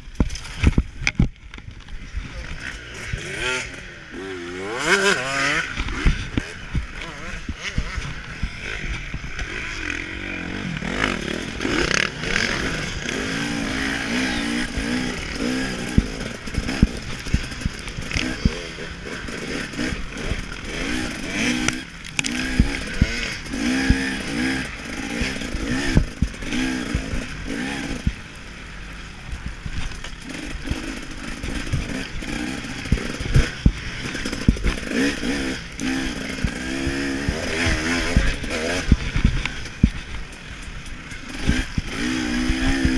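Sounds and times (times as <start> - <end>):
dirt bike engine revving: 2.0 - 42.9.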